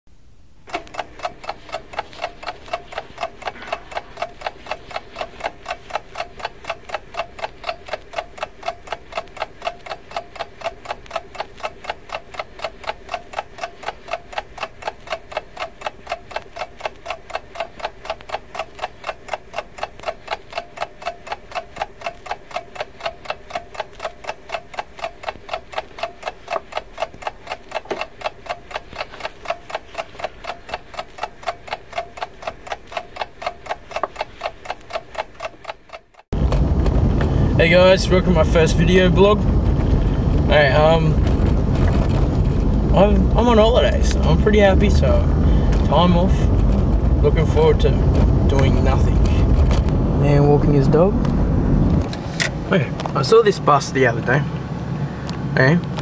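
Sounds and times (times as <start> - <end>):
mechanical ticking: 0.6 - 50.0.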